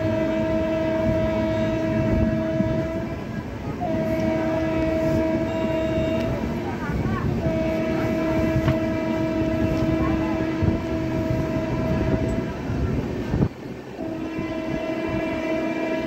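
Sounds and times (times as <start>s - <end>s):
locomotive horn blast: 0.0s - 16.0s
moving train rumble: 0.0s - 16.0s.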